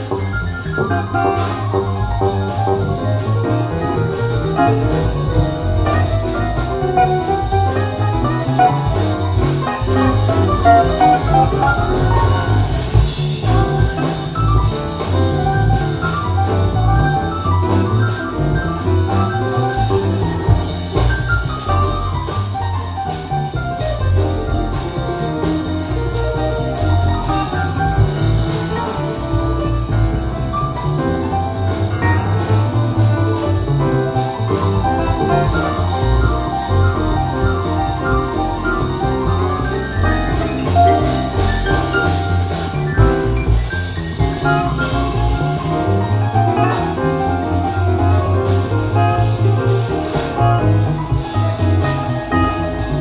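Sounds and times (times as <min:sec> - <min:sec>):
jazz record playing: 0:00.0 - 0:53.0.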